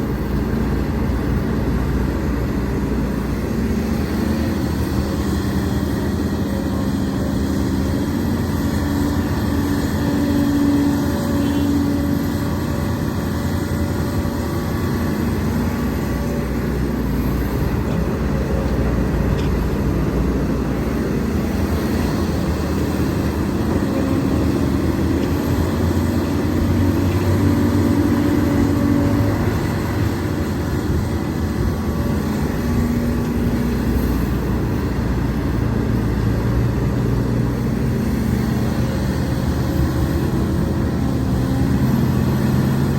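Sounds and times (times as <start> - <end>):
excavator diesel engine under load: 0.0 - 42.9.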